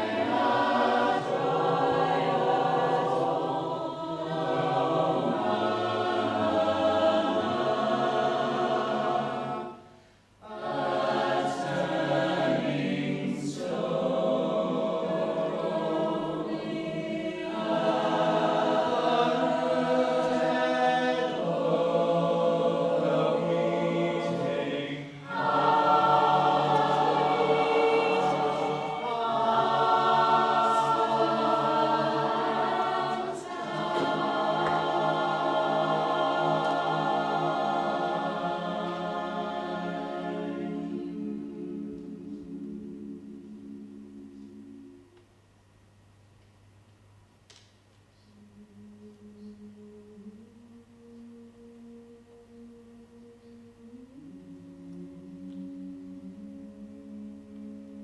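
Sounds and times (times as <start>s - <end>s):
choir singing harmonies: 0.0s - 45.5s, 48.2s - 58.0s.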